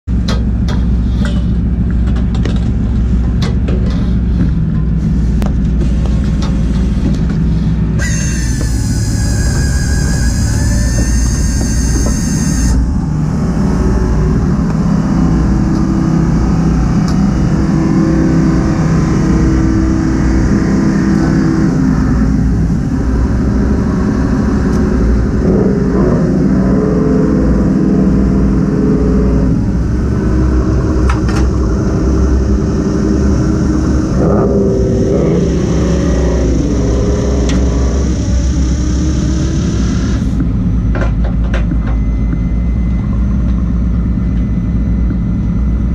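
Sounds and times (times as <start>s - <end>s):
boat engine running: 0.1s - 45.9s.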